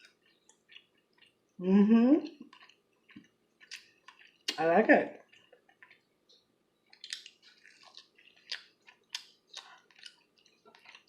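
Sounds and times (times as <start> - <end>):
wet chewing: 0.0 - 1.6, 2.2 - 11.0.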